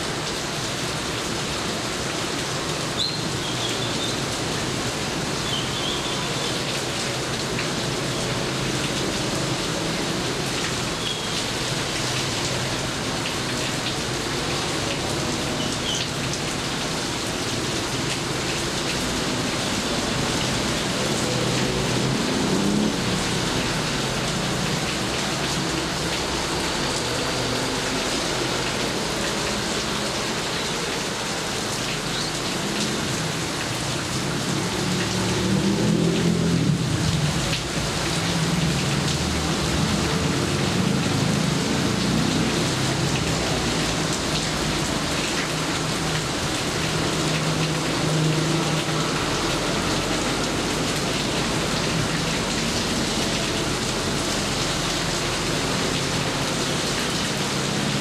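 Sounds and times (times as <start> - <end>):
heavy rain hissing and pattering: 0.0 - 58.0.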